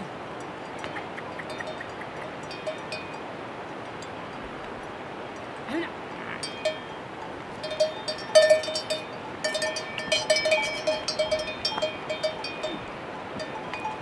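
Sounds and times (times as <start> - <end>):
water buffalo bells clanking: 0.0 - 14.0.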